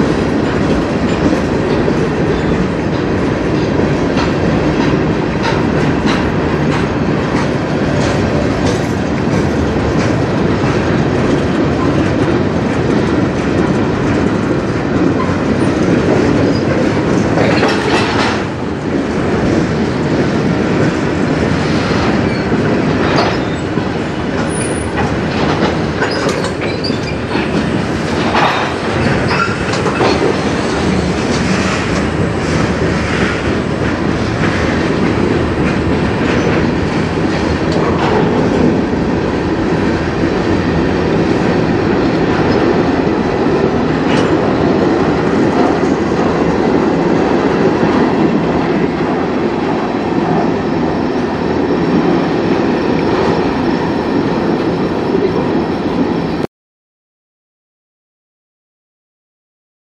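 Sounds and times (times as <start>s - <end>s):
train wheels rumbling on rails: 0.0s - 56.5s.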